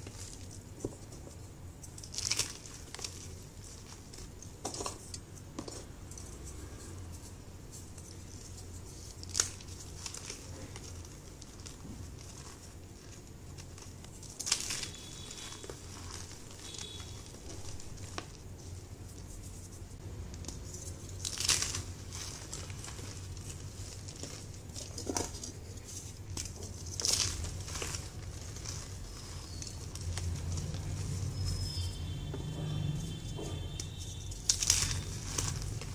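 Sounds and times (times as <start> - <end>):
chalk crumbling by hand: 0.0 - 35.9
chalk chunks crunching: 6.2 - 35.9.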